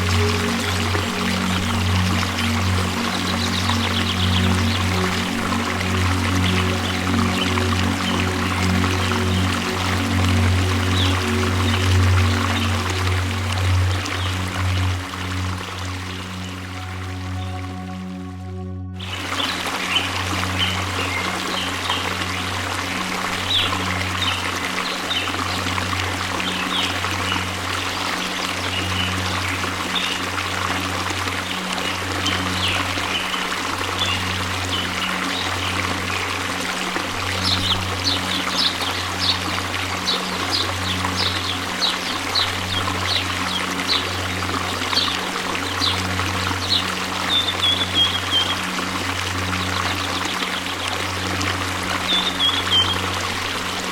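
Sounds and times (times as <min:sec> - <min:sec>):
waterfall rushing: 0:00.0 - 0:18.2, 0:19.0 - 0:53.9.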